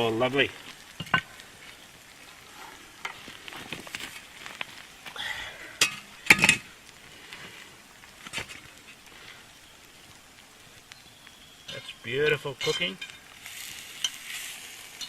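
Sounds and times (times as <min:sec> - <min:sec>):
faint sizzling: 0:00.0 - 0:15.0.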